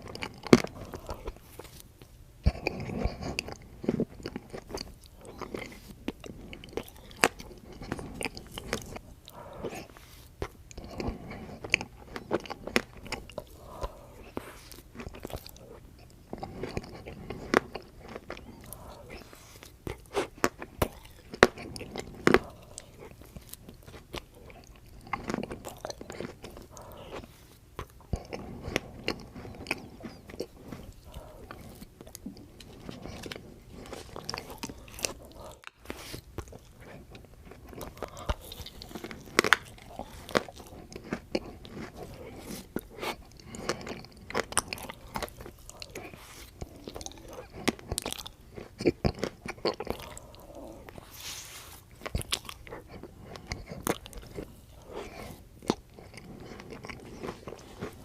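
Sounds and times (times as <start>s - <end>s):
biting and chewing ice cream: 0.0s - 58.0s.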